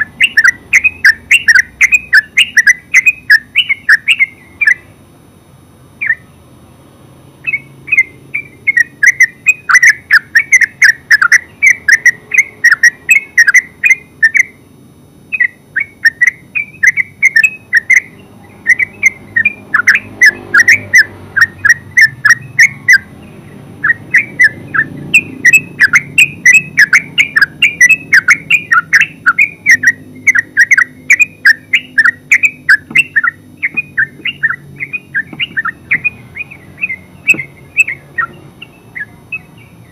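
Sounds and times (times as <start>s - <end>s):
bird singing fluty notes: 0.0s - 5.0s, 6.0s - 6.6s, 7.2s - 39.9s.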